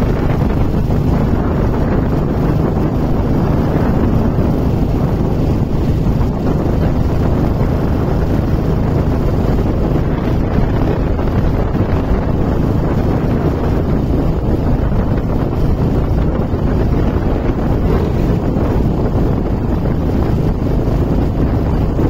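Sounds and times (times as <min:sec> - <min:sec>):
vehicle rumble: 0:00.0 - 0:22.0
wind buffeting microphone: 0:00.0 - 0:22.0.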